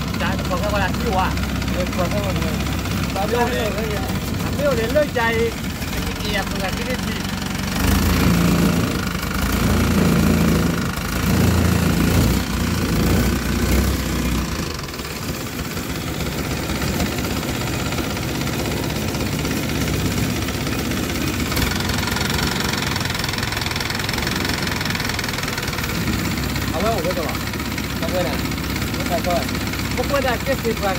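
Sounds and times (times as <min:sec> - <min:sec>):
boat engine rumbling: 0:00.0 - 0:30.9.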